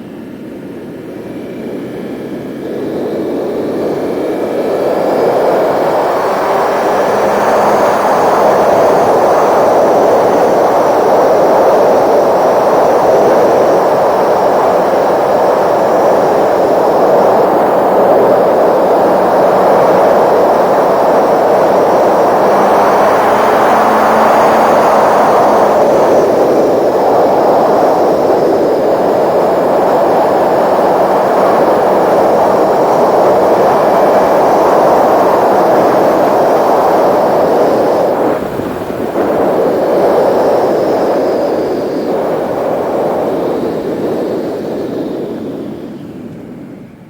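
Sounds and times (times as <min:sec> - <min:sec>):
wind rushing on microphone: 0:00.0 - 0:47.0.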